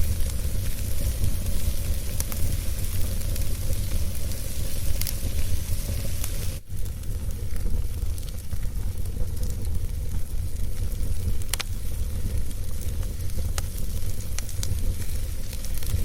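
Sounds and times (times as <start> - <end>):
fire crackles: 0.0 - 16.0
wood fire rumble and hiss: 0.0 - 16.0.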